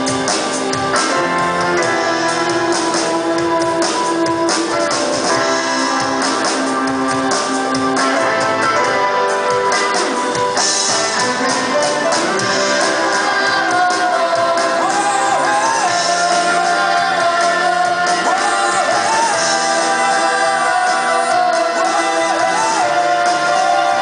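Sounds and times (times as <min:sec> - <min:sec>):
lead vocal singing: 0:00.0 - 0:24.0
rock band playing: 0:00.0 - 0:24.0.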